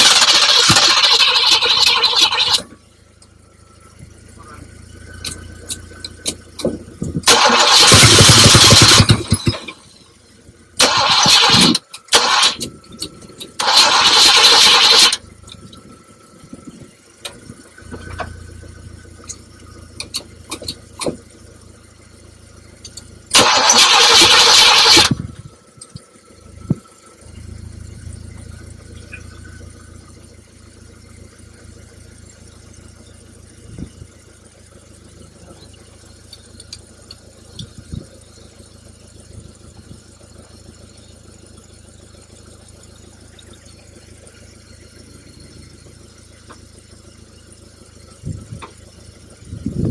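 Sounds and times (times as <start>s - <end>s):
car engine cranking: 0.0s - 49.9s.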